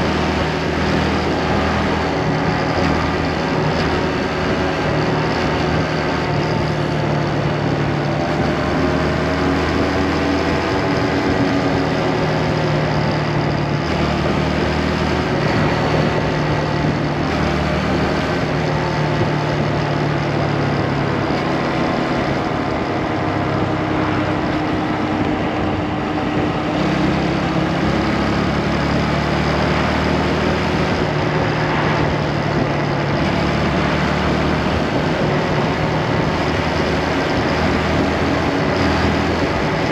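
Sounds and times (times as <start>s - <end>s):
motorcycle engine revving: 0.0s - 39.9s
road noise: 0.0s - 39.9s
wind rush: 0.0s - 39.9s.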